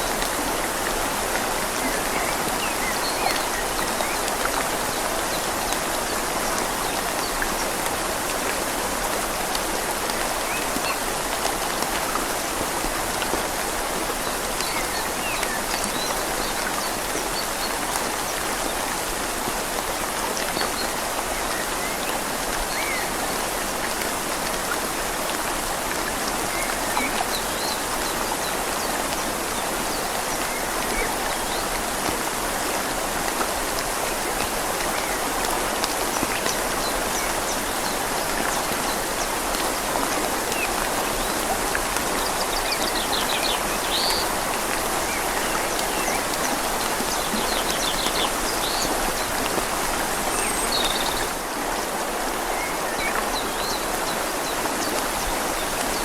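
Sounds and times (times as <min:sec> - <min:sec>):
rain falling on leaves: 0:00.0 - 0:56.0
river flowing: 0:00.0 - 0:56.0.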